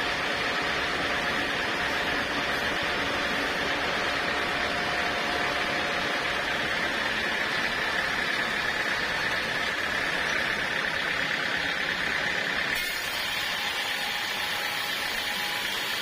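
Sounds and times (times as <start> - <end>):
sawmill running with high whine: 0.0 - 16.0.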